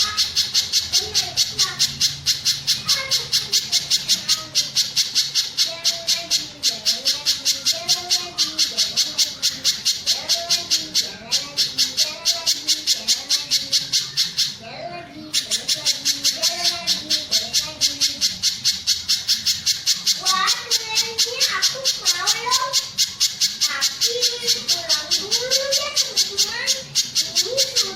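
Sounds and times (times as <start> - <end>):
bird calling sharp high notes: 0.0 - 14.6, 15.2 - 27.9.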